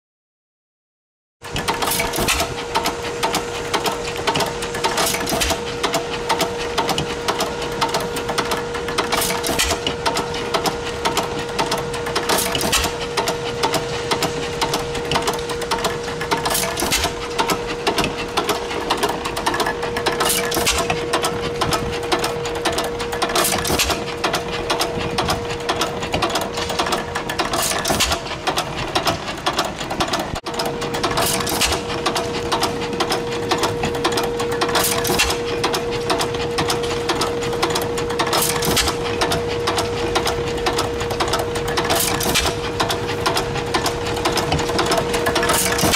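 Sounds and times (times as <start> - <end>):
engine valve gear clatter: 1.5 - 45.9
low machinery hum: 1.5 - 45.9.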